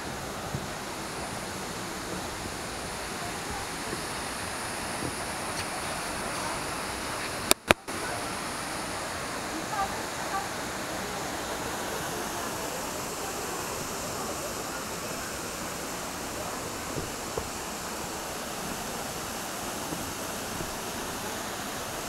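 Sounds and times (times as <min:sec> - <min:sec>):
waterfall rushing into pool: 0:00.0 - 0:22.0.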